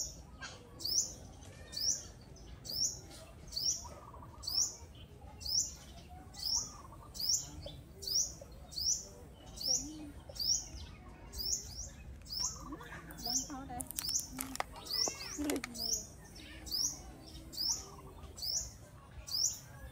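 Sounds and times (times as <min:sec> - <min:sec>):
bird chirping: 0:00.0 - 0:19.9.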